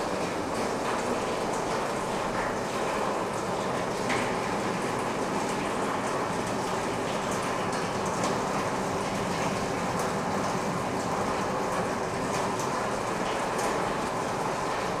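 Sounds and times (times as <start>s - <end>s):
water rushing through pipes: 0.0s - 15.0s.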